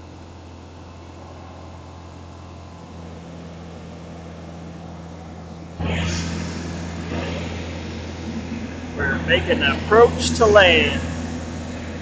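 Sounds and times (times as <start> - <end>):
light airplane engine droning: 0.0 - 12.0.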